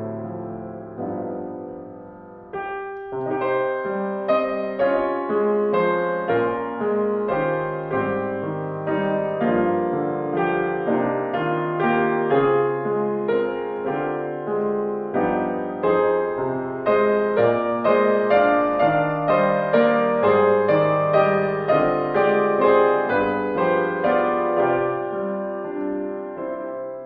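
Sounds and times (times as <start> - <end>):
solo piano playing: 0.0 - 27.0.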